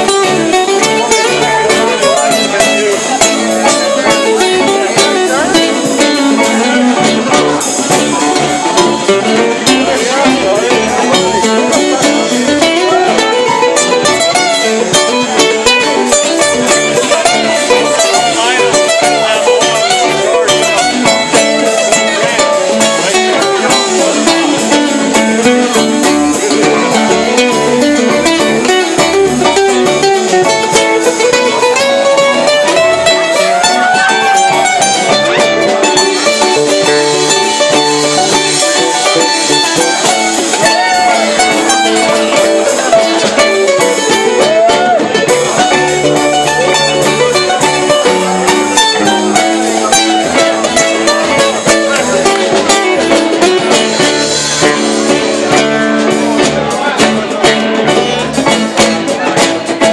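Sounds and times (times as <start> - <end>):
electric guitar line bending: 0.0 - 59.9
live band playing: 0.0 - 59.9.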